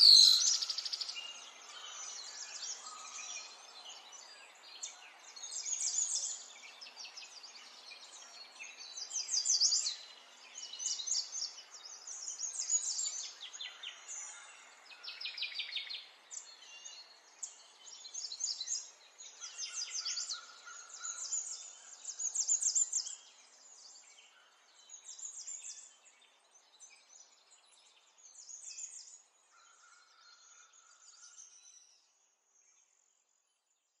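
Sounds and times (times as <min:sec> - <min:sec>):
small birds chirping and trilling: 0:00.0 - 0:33.8.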